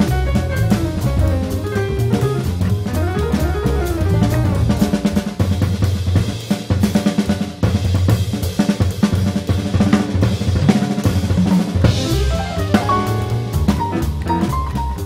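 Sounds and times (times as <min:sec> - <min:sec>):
drum kit playing: 0:00.0 - 0:15.0
jazz combo: 0:00.0 - 0:15.0.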